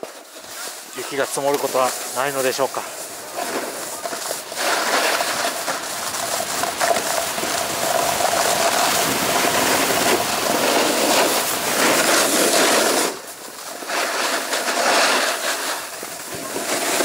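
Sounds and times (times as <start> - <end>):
snowboard scraping on snow: 0.0 - 17.0.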